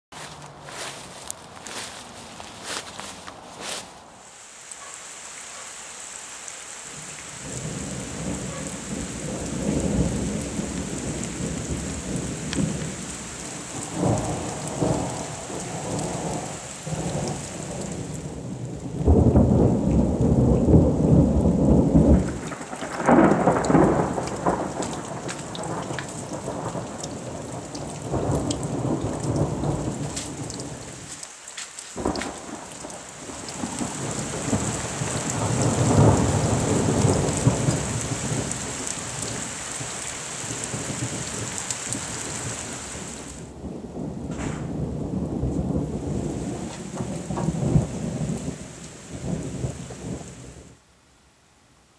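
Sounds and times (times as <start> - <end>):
steady rain: 0.1 - 51.9
thunder rumbling: 7.4 - 31.1, 32.0 - 50.7.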